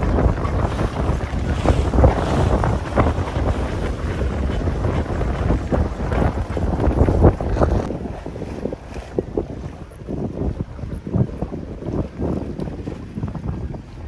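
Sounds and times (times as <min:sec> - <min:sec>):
water splashing along hull: 0:00.0 - 0:14.0
wind buffeting microphone: 0:00.0 - 0:14.0.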